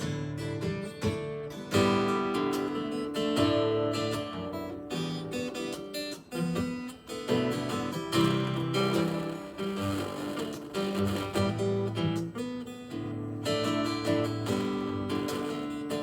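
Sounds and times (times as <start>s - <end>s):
solo acoustic guitar: 0.0s - 16.0s.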